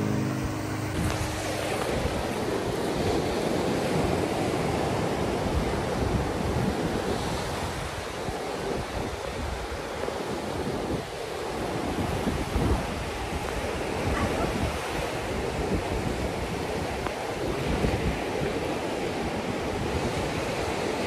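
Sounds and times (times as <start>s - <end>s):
ocean surf washing on shore: 0.0s - 21.0s.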